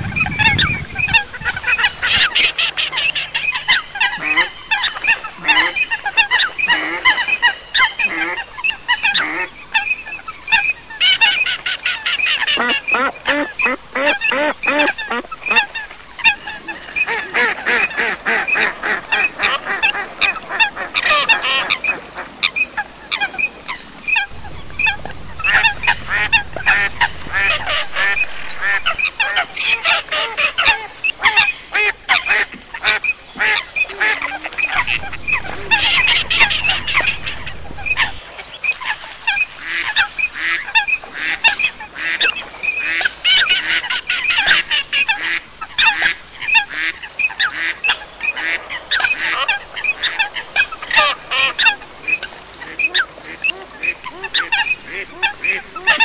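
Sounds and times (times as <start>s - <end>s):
waterbirds calling in chorus: 0.0s - 56.0s.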